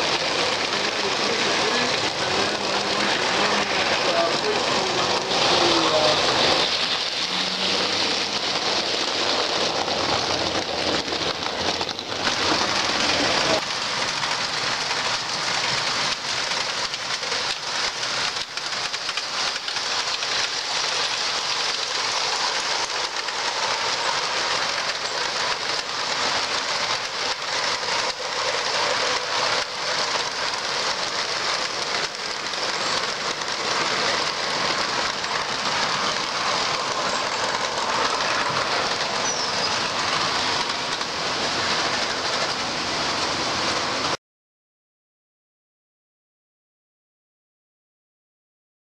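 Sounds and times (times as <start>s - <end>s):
model train wheels hissing: 0.0s - 44.2s.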